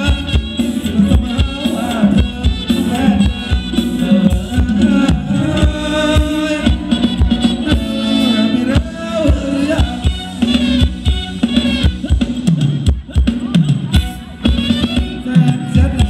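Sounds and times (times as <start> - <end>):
person singing: 0.0 - 10.9, 11.5 - 16.0
band playing dance music: 0.0 - 16.0
steady drum beat: 0.0 - 16.0.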